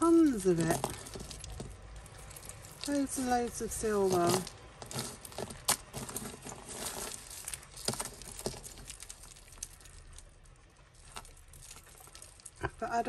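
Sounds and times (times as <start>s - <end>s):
plastic bagging rustling: 0.4s - 12.6s.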